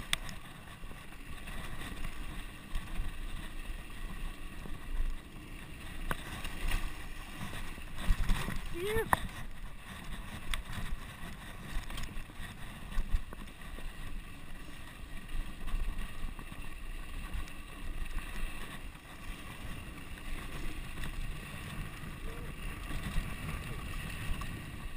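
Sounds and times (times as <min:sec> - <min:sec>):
bike tyres rumbling on dirt: 0:00.0 - 0:24.9
wind on microphone: 0:00.0 - 0:24.9.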